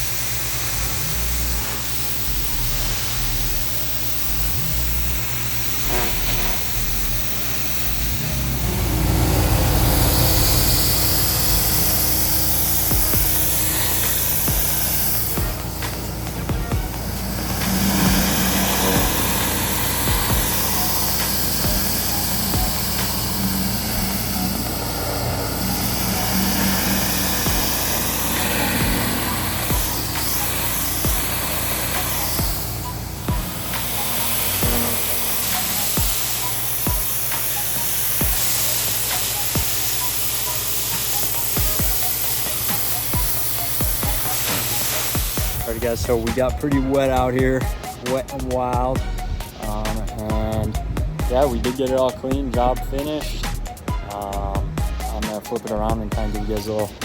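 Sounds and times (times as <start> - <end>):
pressure washer engine running: 0.0 - 57.0
water spraying hiss: 0.0 - 57.0.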